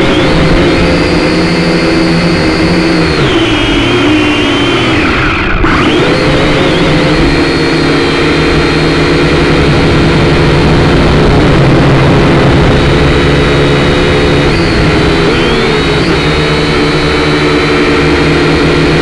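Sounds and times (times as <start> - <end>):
quadcopter motors buzzing: 0.0 - 19.0.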